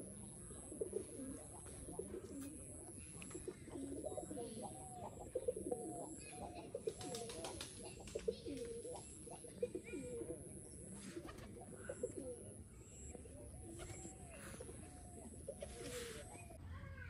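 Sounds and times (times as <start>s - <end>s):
pigeons cooing: 0.0s - 16.7s.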